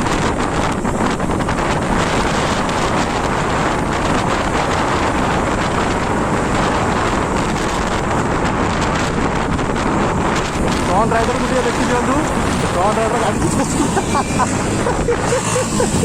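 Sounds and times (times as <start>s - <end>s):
motorcycle engine: 0.0s - 16.0s
road noise: 0.0s - 16.0s
wind rush on microphone: 0.0s - 16.0s.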